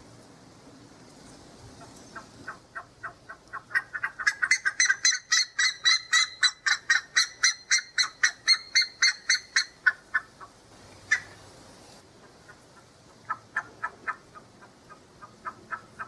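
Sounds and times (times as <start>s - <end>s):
ibis calling: 1.7s - 16.0s.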